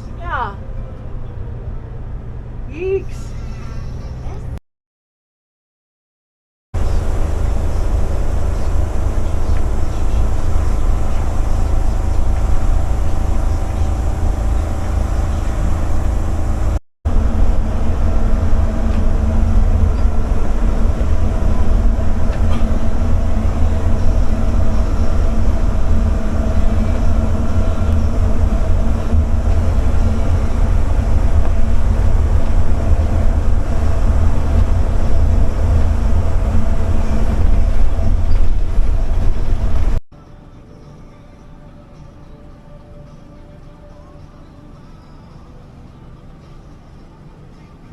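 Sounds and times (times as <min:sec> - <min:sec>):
vehicle engine rumble: 0:00.0 - 0:04.6, 0:06.8 - 0:40.0, 0:43.0 - 0:47.9.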